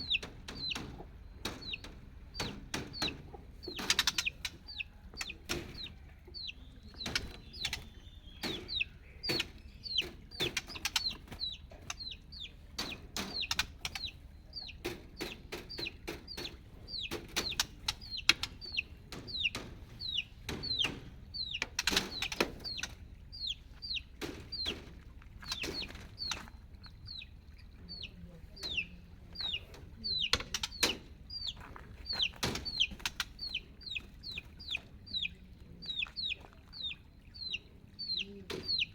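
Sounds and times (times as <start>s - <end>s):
sharp taps and knocks: 0.0s - 27.3s, 28.5s - 34.9s, 38.5s - 38.9s
chicks peeping: 0.0s - 38.9s.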